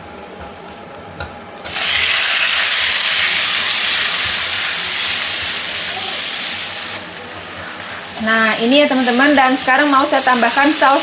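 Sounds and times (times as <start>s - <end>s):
tomatoes sizzling in hot oil: 1.7s - 11.0s.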